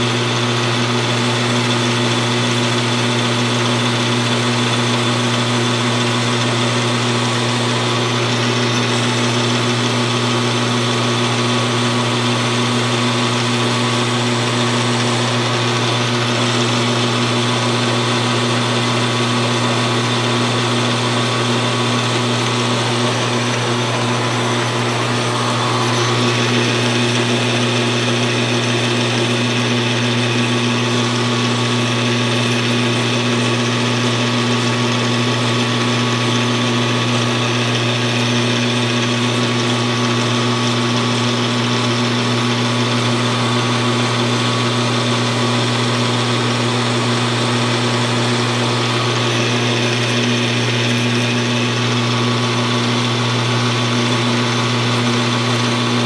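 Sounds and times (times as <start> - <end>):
metal lathe running: 0.0 - 56.0.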